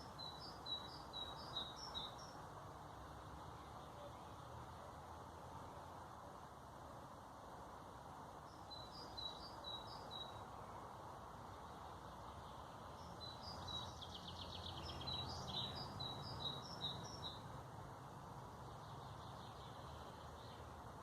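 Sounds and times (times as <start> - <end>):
songbird singing: 0.0 - 6.4, 7.7 - 21.0
low background hiss: 0.0 - 21.0.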